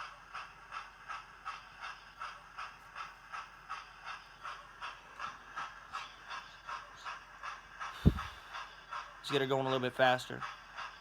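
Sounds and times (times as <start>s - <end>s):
model steam locomotive chuffs: 0.0s - 11.0s.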